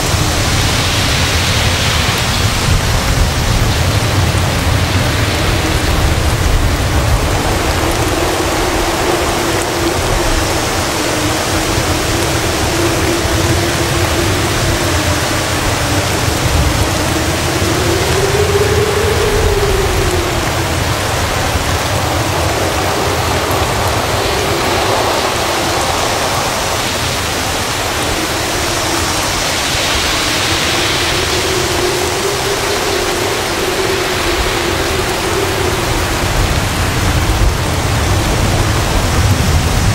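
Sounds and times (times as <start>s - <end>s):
heavy rain pouring: 0.0s - 39.9s
wind howling: 0.0s - 39.9s.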